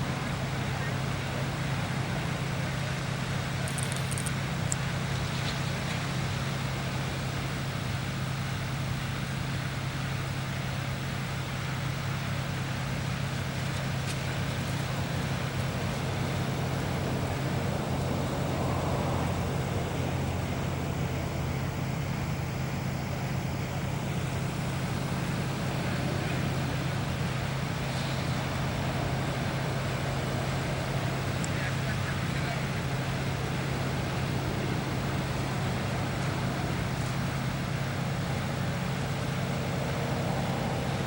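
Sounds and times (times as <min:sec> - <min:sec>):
heavy engine droning: 0:00.0 - 0:41.0
highway traffic hiss: 0:00.0 - 0:41.0.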